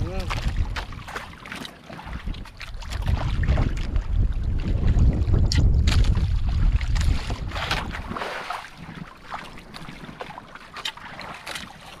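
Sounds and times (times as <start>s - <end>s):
water splashes and knocks: 0.0s - 12.0s
wind buffeting microphone: 0.0s - 12.0s.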